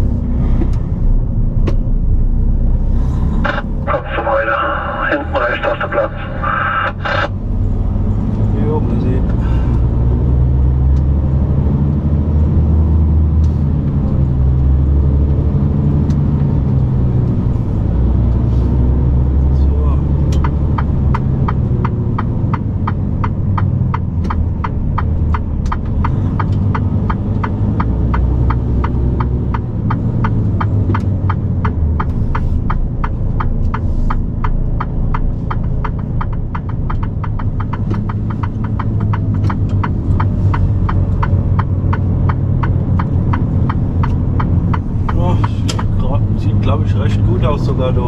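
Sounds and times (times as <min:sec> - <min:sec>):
truck engine drone: 0:00.0 - 0:48.0
turn signal ticking: 0:03.4 - 0:48.0.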